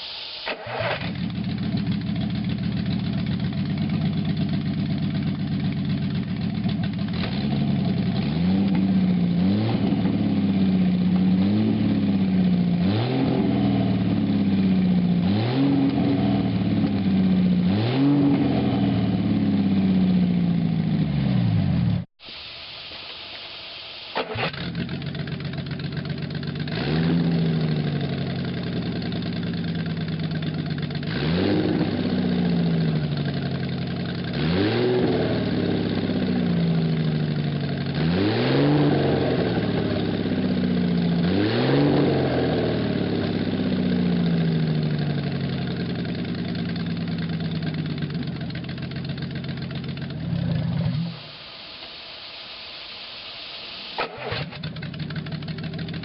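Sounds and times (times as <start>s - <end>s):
car engine running steadily: 0.4s - 22.1s, 24.2s - 51.5s, 53.7s - 56.0s
car engine revving: 0.6s - 22.1s, 24.2s - 51.4s.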